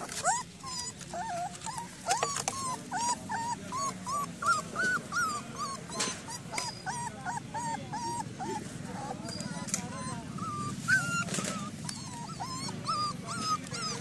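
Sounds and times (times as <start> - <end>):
puppy whimpering and yelping: 0.0 - 14.0.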